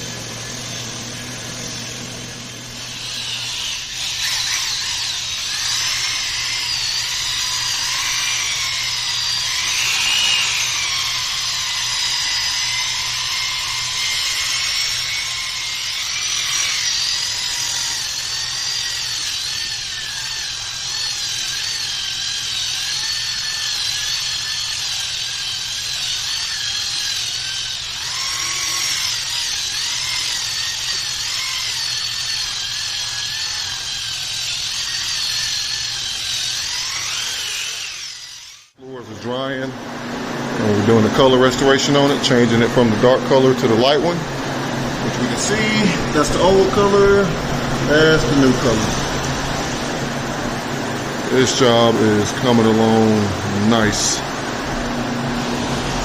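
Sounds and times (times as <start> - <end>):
power drill whining: 0.0 - 56.0.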